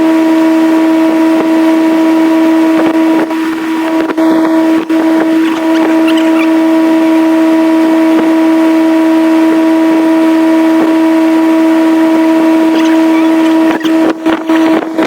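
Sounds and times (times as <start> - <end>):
boat motor humming: 0.1 - 15.0.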